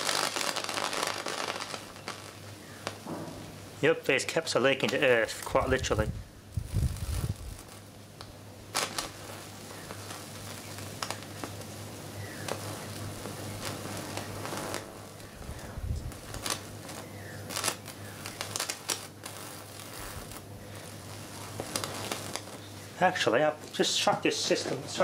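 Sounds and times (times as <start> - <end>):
electric arc snapping: 0.0 - 24.6
low transformer hum: 1.1 - 25.0.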